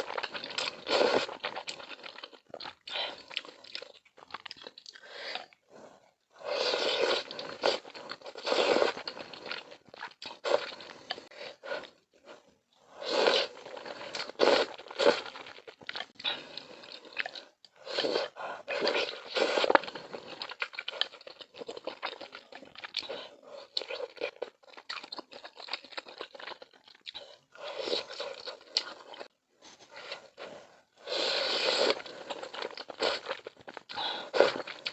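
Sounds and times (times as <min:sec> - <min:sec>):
person crunching and chewing food: 0:00.0 - 0:05.7, 0:06.5 - 0:29.3, 0:31.0 - 0:34.9.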